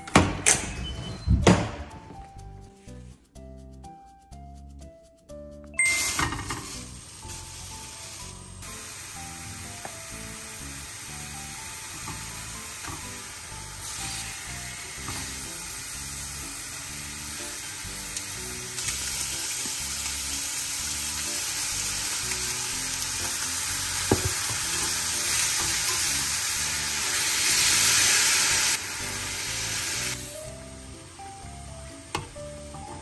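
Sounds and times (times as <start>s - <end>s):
meat sizzling in a pot: 5.8s - 32.9s.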